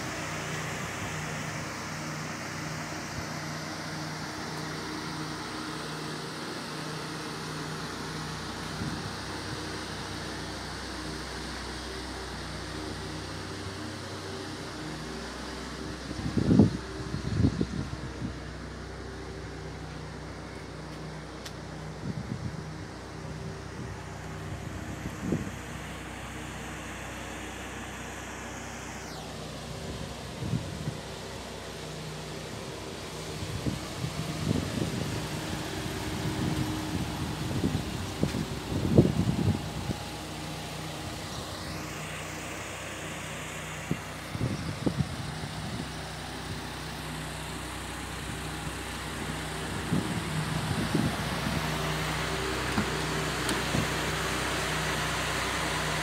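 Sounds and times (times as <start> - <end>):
faint falling whine: 0.0 - 56.0
low vehicle hum: 0.0 - 56.0
road traffic noise: 0.0 - 56.0.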